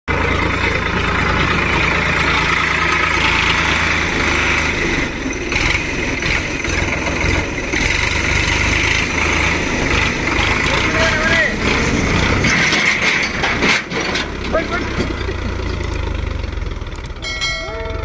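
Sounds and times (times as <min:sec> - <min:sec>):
tractor diesel engine running: 0:00.1 - 0:18.0.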